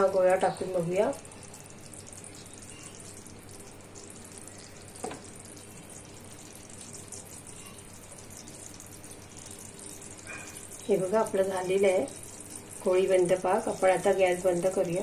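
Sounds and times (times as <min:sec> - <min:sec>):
low steady hum: 0:00.0 - 0:15.0
syrup bubbling and hissing: 0:00.0 - 0:15.0.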